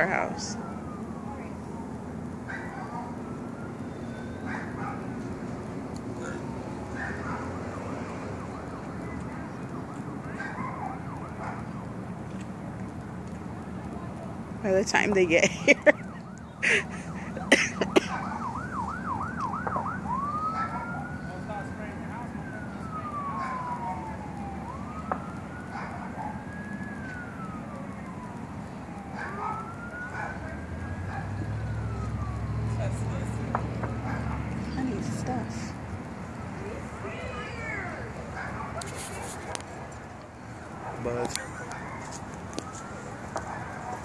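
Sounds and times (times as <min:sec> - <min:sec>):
distant emergency siren: 0:00.0 - 0:44.0.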